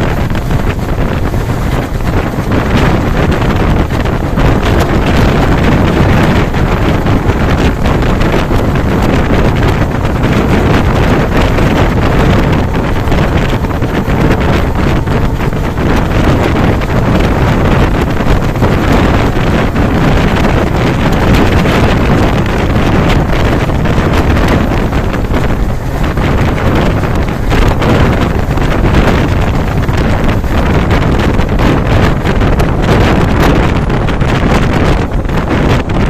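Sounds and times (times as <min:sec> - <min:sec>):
rapid clatter: 0:00.0 - 0:36.0
train running at speed: 0:00.0 - 0:36.0
wind buffeting microphone: 0:00.0 - 0:36.0.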